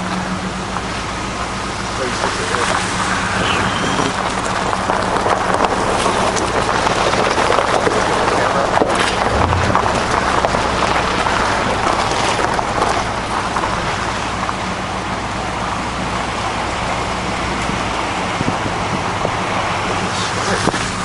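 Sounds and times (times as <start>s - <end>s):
low engine hum: 0.0s - 21.0s
road and wind noise: 0.0s - 21.0s.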